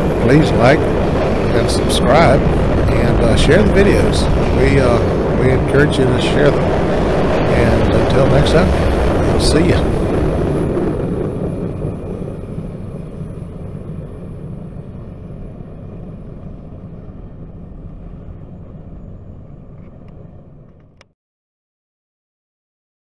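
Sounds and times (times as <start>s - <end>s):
freight train wheels rumbling: 0.0s - 20.9s.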